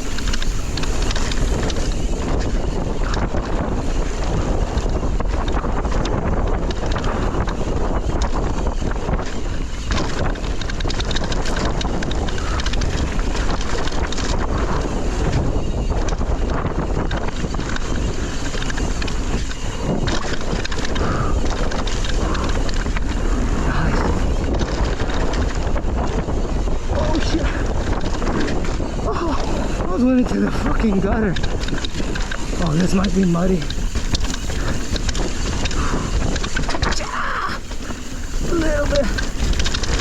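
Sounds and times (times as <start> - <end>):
mountain bike riding on dirt: 0.0 - 40.0
wind buffeting microphone: 0.0 - 40.0.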